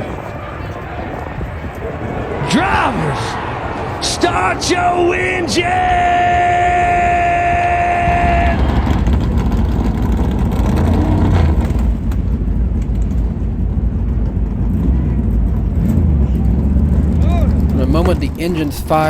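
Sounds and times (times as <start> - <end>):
engines revving: 0.0 - 19.0
race car engines rumbling: 0.0 - 19.0.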